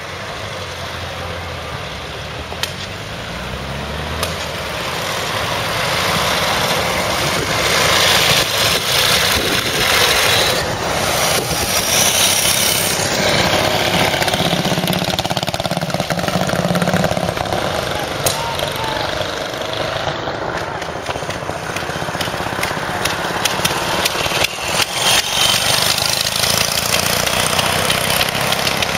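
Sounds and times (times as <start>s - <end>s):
traffic noise: 0.0s - 28.9s
motorcycle engine passing: 0.2s - 28.9s.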